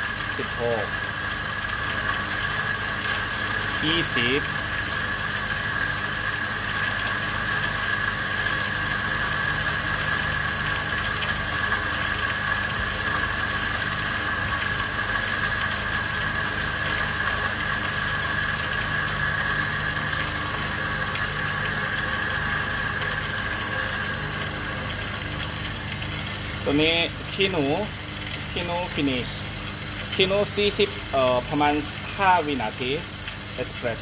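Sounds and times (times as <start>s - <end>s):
coffee grinder motor whine: 0.0s - 34.0s
low motor hum: 0.0s - 34.0s.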